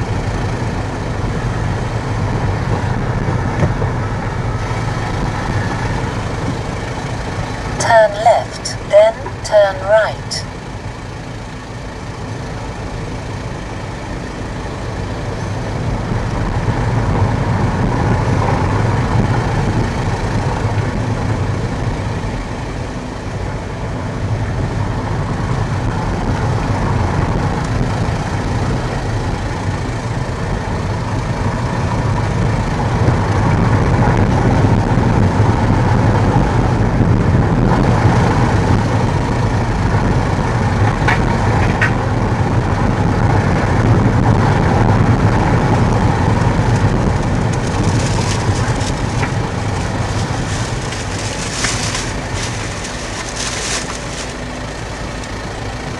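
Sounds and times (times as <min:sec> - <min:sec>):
car road and engine noise: 0:00.0 - 0:55.9.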